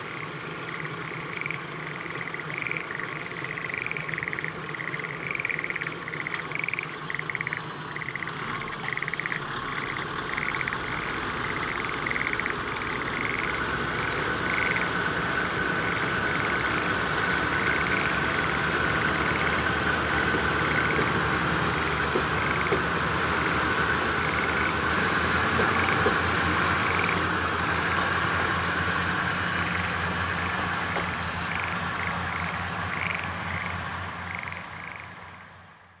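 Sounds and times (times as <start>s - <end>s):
frogs calling: 0.0s - 27.4s, 28.7s - 35.5s
diesel train engine running: 0.0s - 36.0s.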